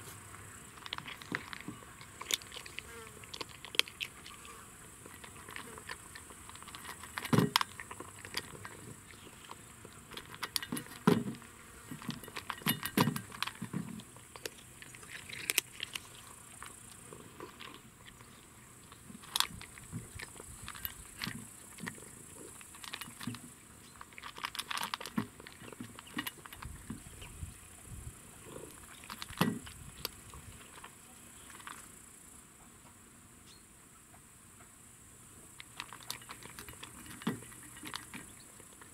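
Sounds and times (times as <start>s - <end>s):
cat crunching dry kibble: 0.0s - 27.4s, 28.4s - 32.0s, 35.6s - 38.9s.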